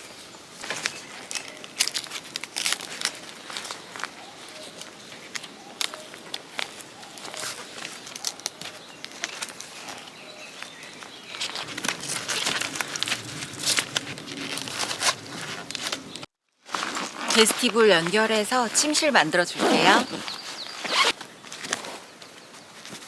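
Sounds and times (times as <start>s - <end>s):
tent fabric rustling and crinkling: 0.0s - 23.0s.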